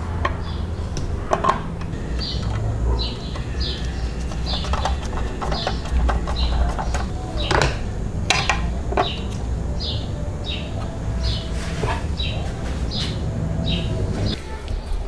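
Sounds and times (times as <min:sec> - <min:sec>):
steady low hum: 0:00.0 - 0:15.0
bird chirping: 0:00.3 - 0:15.0.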